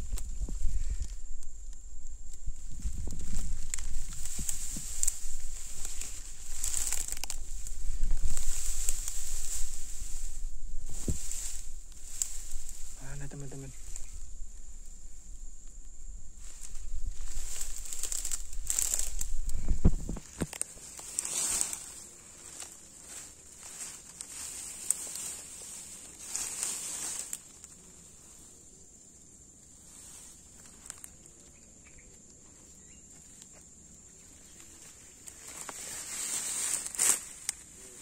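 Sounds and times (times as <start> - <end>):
insects droning: 0.0 - 38.0
undergrowth rustling underfoot: 0.0 - 38.0.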